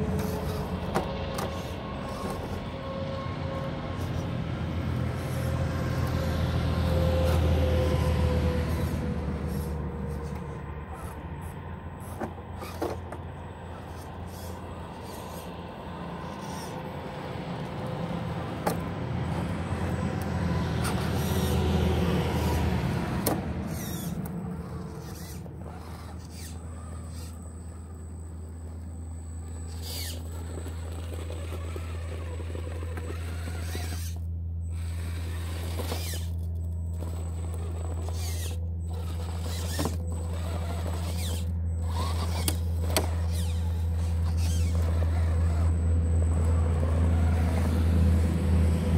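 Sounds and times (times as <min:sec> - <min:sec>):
rc truck motor whirring: 0:00.0 - 0:48.9.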